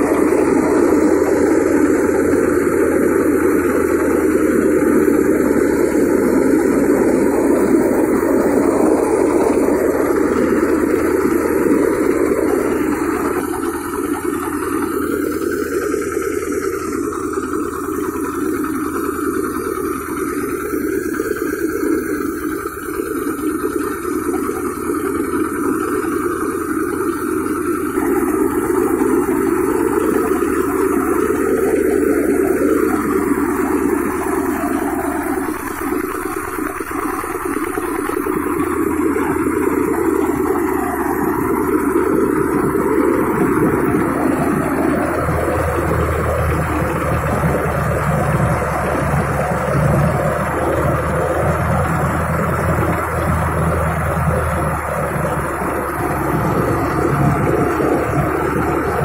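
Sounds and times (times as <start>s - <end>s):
diesel engine running: 0.0s - 59.0s
grain thresher running: 0.0s - 59.0s.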